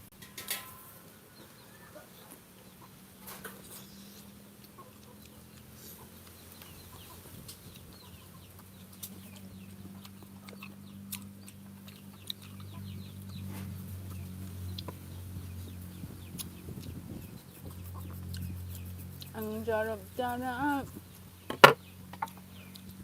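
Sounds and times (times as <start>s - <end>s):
chickens clucking and chirping: 0.0s - 23.0s
steady low hum: 2.4s - 23.0s.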